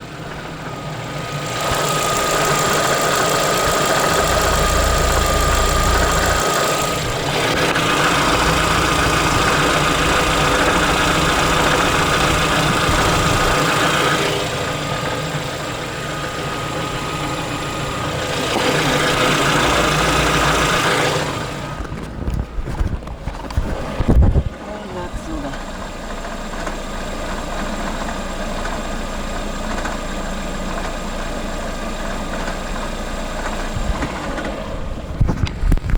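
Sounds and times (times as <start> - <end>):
car engine idling: 0.0 - 35.8.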